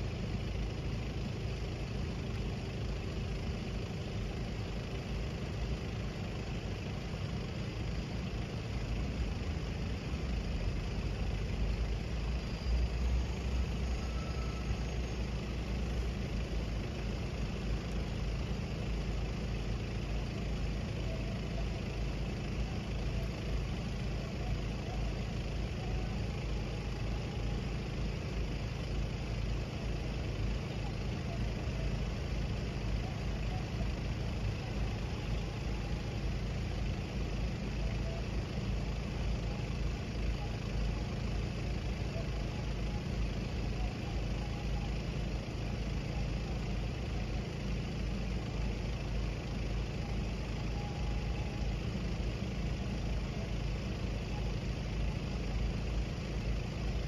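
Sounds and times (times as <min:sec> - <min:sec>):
vehicle engines idling: 0:00.0 - 0:57.0.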